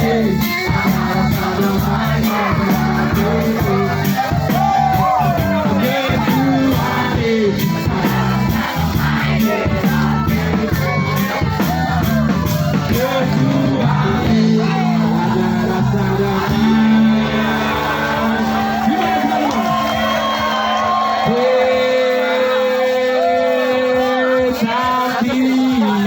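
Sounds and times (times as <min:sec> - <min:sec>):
pop song with singing: 0:00.0 - 0:26.0.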